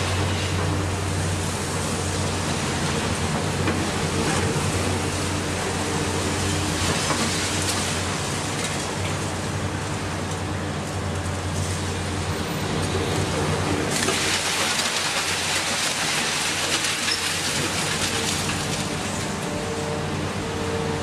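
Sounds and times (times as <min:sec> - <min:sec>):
demolition hiss and rumble: 0:00.0 - 0:21.0
excavator diesel engines: 0:00.0 - 0:21.0.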